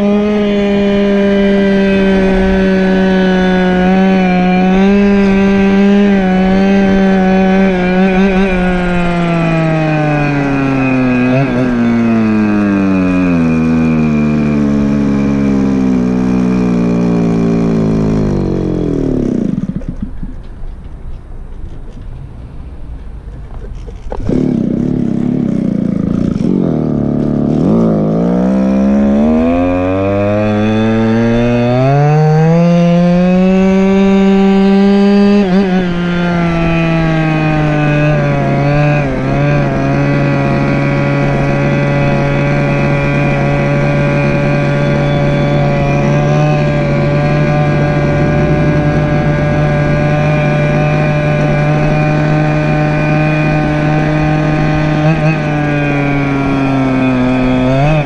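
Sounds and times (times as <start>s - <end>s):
small two-stroke scooter engine: 0.0s - 22.2s, 23.3s - 58.0s.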